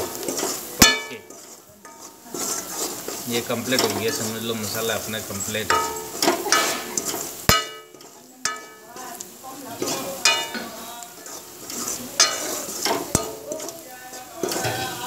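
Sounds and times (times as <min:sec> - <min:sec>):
ladle clacking on pan: 0:00.0 - 0:15.0
ladle scraping metal pan: 0:00.0 - 0:15.0
oil sizzling: 0:00.0 - 0:15.0.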